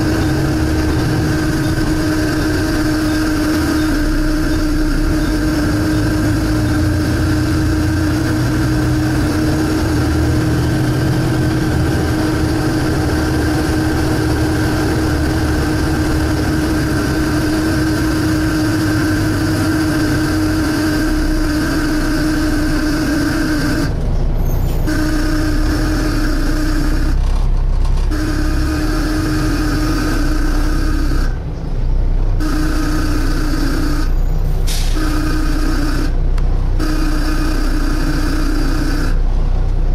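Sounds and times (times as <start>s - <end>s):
humming suction noise: 0.0s - 27.3s, 28.0s - 31.5s, 32.3s - 39.9s
bus engine rumble: 0.0s - 39.9s.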